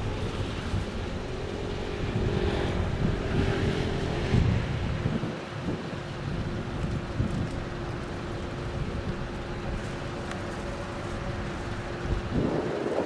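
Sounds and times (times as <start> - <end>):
locomotive rumble: 0.0 - 13.0
wind buffeting microphone: 0.0 - 13.0.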